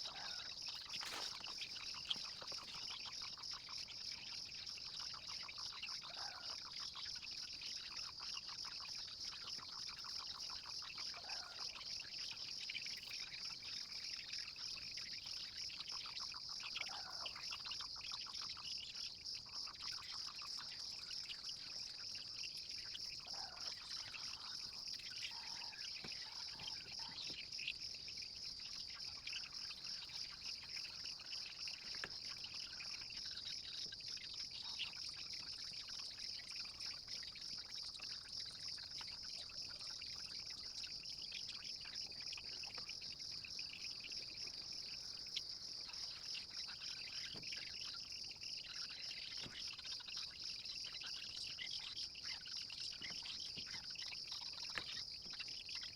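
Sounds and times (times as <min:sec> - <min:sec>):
faint chirps: 0:00.0 - 0:55.9
high-pitched insect chorus: 0:00.0 - 0:55.9.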